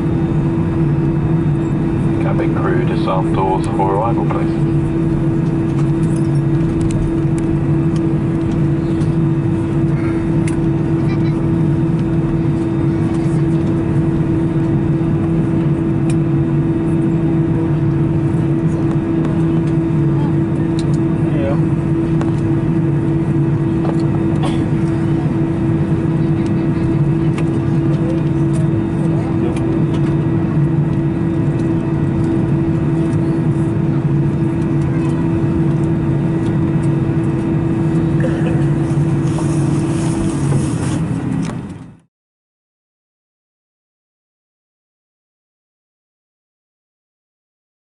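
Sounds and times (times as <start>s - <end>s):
aircraft cabin low hum: 0.0s - 42.1s.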